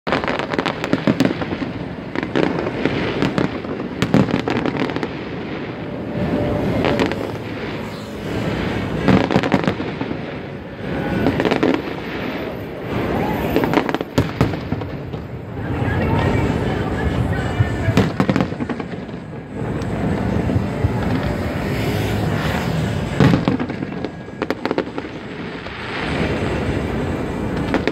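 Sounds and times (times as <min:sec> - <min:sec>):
fireworks bursting: 0:00.1 - 0:27.9.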